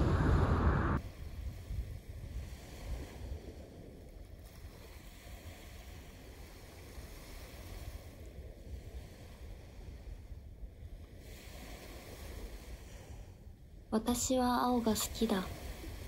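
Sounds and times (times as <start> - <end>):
wind rumble on microphone: 0.0 - 14.0, 15.4 - 16.0
small waves washing onto sand: 1.0 - 13.4, 14.8 - 16.0.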